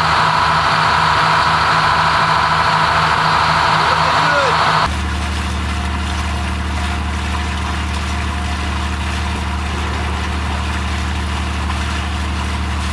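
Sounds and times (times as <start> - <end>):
marine diesel engine drone: 0.0 - 12.9.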